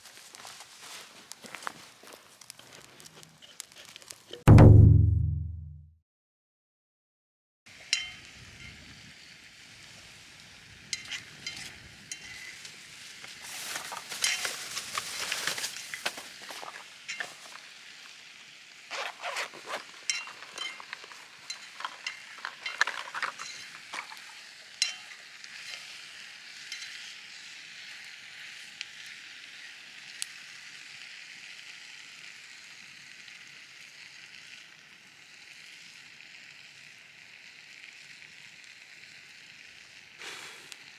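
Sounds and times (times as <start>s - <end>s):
campfire crackling and popping: 0.0s - 4.5s, 10.7s - 31.4s, 33.0s - 40.9s
steak sizzling on a grill: 7.8s - 40.9s.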